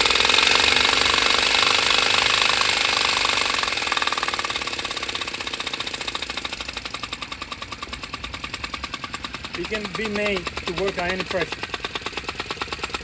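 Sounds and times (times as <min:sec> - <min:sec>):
air-driven piston engine running: 0:00.0 - 0:13.0.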